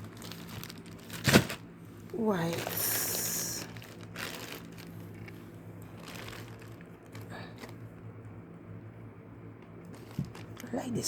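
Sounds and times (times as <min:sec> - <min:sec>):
packaging crinkling and rustling: 0:00.0 - 0:07.9, 0:09.9 - 0:11.0
steady low hum: 0:00.0 - 0:11.0.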